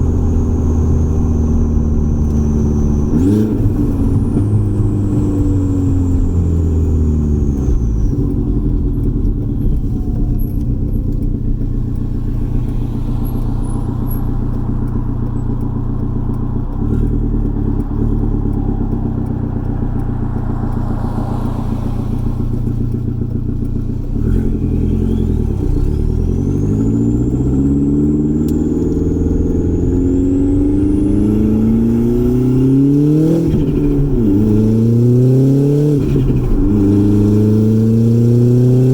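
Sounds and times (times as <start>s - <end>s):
car engine driving: 0.0s - 38.9s
high turbo whine: 0.0s - 38.9s.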